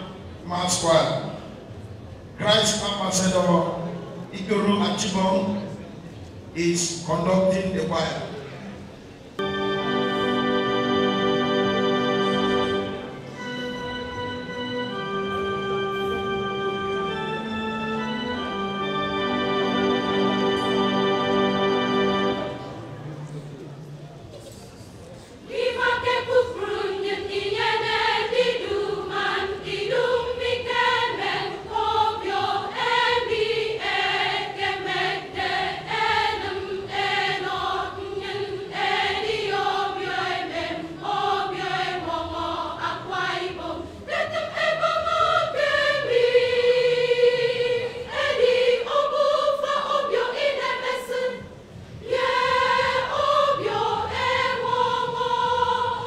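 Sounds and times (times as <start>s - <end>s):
mass choir singing: 0.0s - 1.6s, 9.4s - 23.6s, 25.4s - 56.0s.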